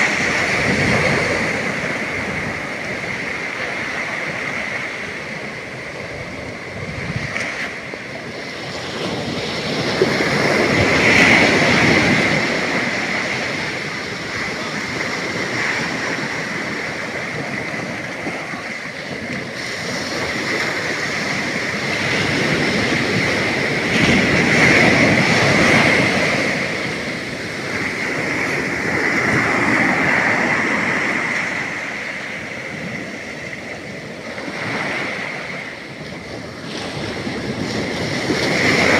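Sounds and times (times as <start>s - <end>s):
sea surf breaking on beach: 0.0s - 38.9s.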